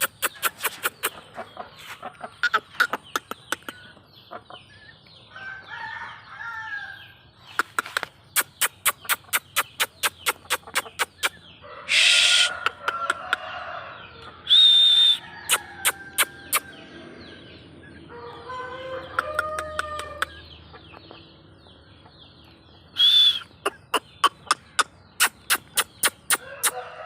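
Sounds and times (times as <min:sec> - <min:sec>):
chickens calling: 0:00.0 - 0:27.0.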